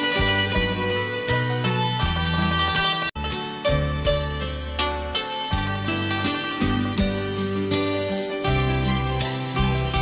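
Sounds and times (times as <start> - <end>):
plucked instrumental melody: 0.0 - 10.0.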